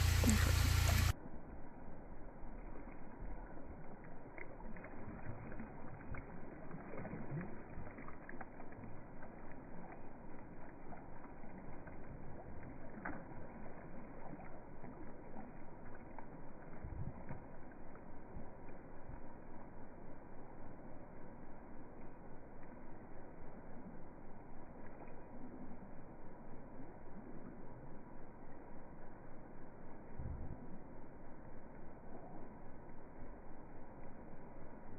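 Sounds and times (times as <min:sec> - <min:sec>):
muffled pulsing water: 0:00.0 - 0:34.9.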